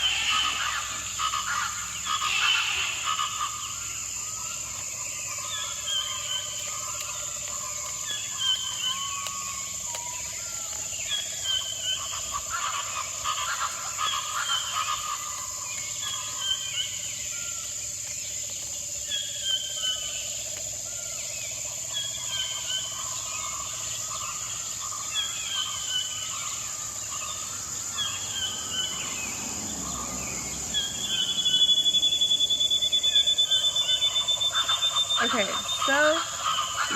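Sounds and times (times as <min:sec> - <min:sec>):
descending bird calls: 0:00.0 - 0:36.9
high-pitched insect drone: 0:00.0 - 0:36.9
scattered bird calls: 0:00.0 - 0:36.9.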